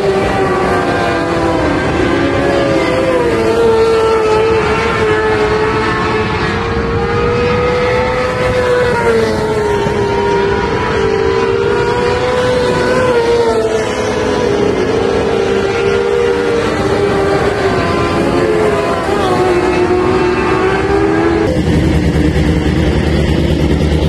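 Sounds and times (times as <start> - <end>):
racing engines buzzing at high revs: 0.0 - 24.0.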